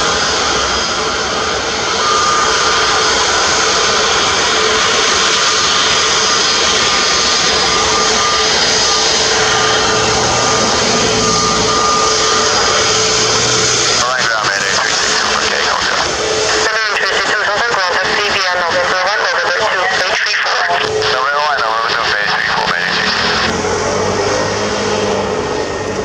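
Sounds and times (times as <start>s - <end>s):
jet engine whine: 0.0s - 26.0s.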